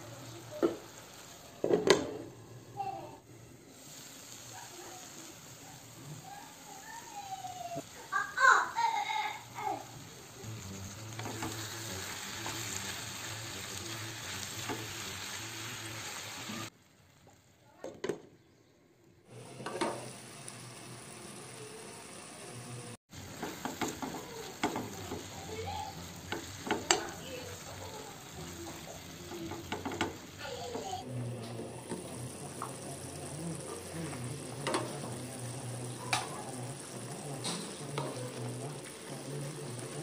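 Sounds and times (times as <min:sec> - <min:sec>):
food sizzling in a frying pan: 0:00.0 - 0:18.0, 0:19.3 - 0:40.0.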